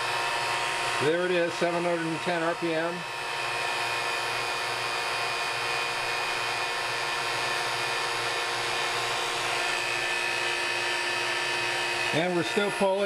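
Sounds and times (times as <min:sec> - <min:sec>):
vacuum pump pulsing hum: 0:00.0 - 0:13.0
wood lathe whir: 0:00.0 - 0:13.0.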